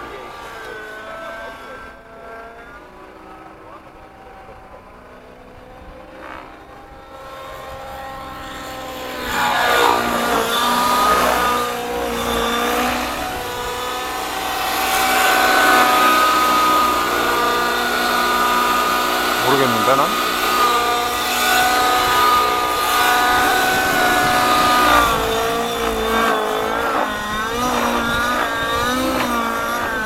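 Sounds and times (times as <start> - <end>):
model helicopter engine and rotor: 0.0 - 30.0.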